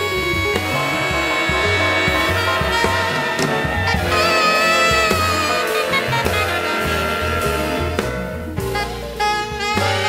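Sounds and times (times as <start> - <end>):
bass line: 0.0 - 10.0
horn chords: 0.0 - 10.0
light drums: 0.0 - 10.0.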